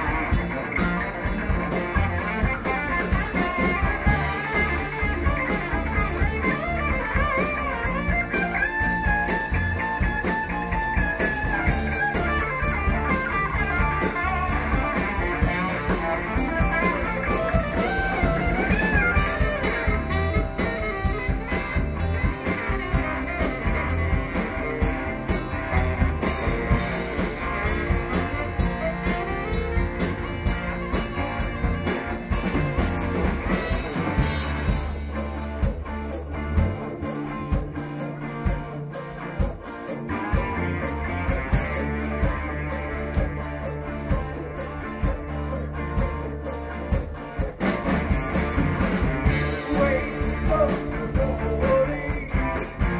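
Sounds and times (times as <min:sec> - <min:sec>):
drum kit beat: 0:00.0 - 0:52.9
electric guitar: 0:00.0 - 0:52.9.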